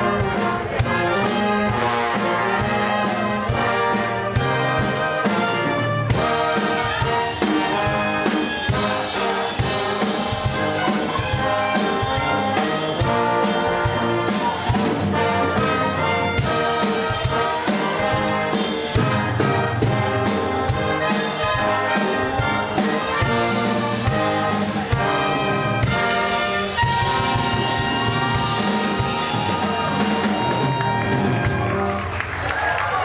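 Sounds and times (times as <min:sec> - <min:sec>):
drum kit: 0:00.0 - 0:32.5
brass band playing upbeat tune: 0:00.0 - 0:33.0.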